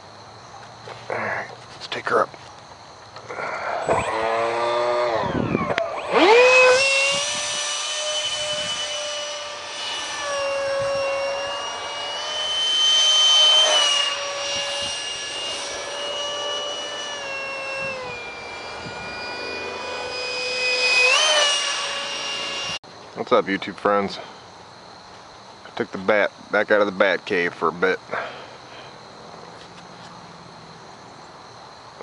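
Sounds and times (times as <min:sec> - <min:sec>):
electric ducted fan whining: 0:00.0 - 0:31.2.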